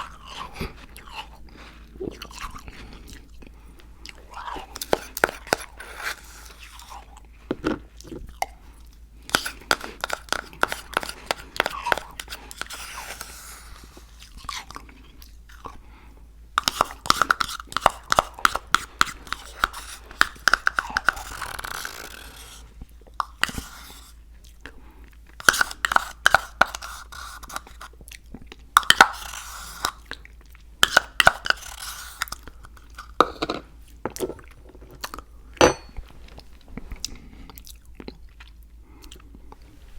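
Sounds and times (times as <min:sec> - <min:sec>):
crunchy cookies chewing: 0:00.0 - 0:35.6, 0:36.3 - 0:39.8.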